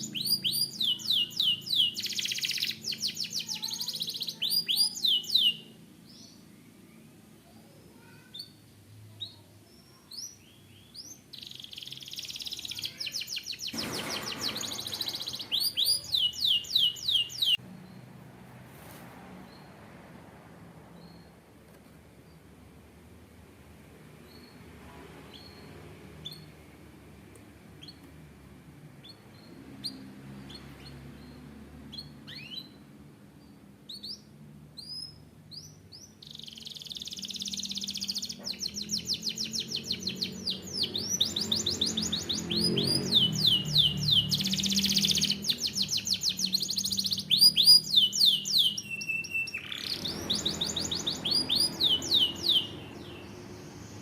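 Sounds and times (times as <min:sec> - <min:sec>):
canary singing: 0:00.0 - 0:18.1, 0:27.7 - 0:28.1, 0:29.0 - 0:54.0.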